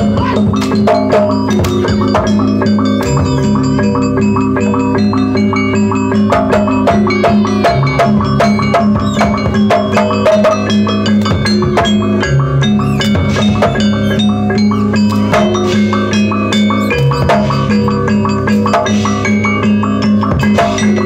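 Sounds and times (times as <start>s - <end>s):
drumming: 0.0s - 21.0s
gamelan music: 0.0s - 21.0s.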